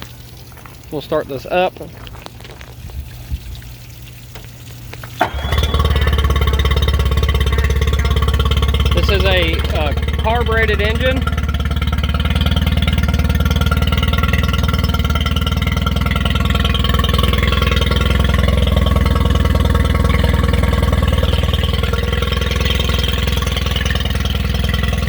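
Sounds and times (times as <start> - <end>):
outboard boat motor idling: 0.0 - 2.2, 2.8 - 25.0.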